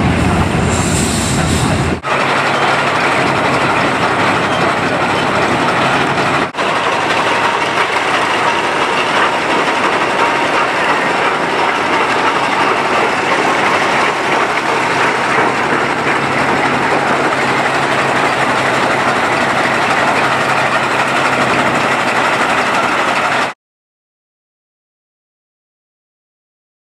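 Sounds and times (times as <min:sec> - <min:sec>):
tractor engine running: 0:00.0 - 0:23.6.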